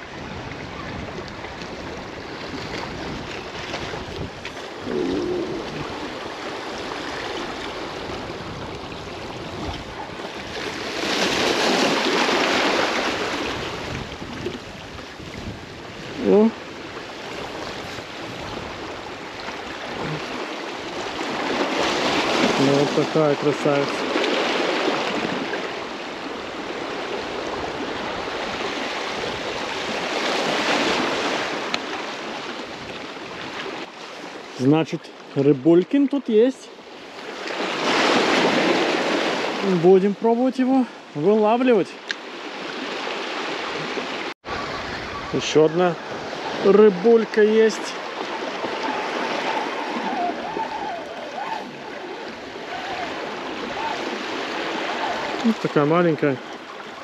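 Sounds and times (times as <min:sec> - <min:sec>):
seawater washing on rocky shore: 0:00.0 - 0:34.9, 0:36.3 - 0:57.0.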